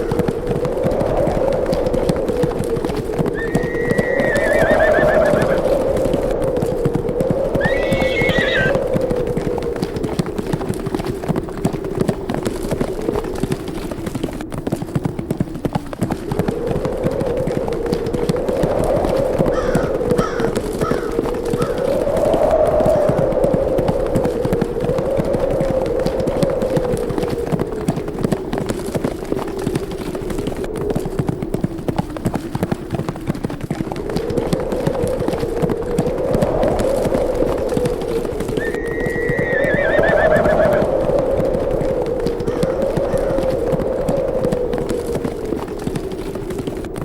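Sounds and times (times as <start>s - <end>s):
horses galloping hoofbeats: 0.0s - 47.0s
wind howling: 0.0s - 47.0s.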